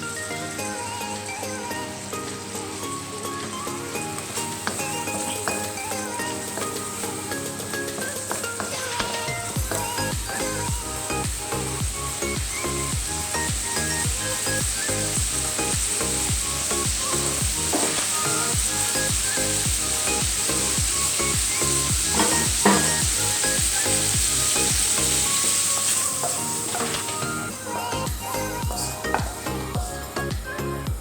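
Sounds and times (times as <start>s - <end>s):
background music with a beat: 0.0s - 31.0s
prawns sizzling in oil: 0.0s - 31.0s.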